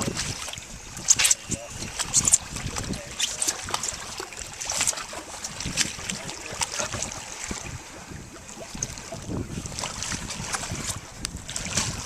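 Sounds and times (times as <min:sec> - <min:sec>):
water lapping around boat: 0:00.0 - 0:12.0
wind on microphone: 0:00.0 - 0:12.0.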